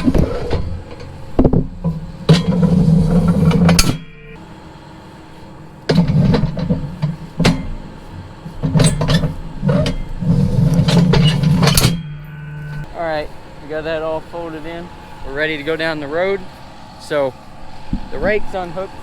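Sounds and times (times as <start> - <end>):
clanks of steel frame: 0.0 - 4.5, 5.3 - 16.5
tractor engine loading up: 0.0 - 18.9.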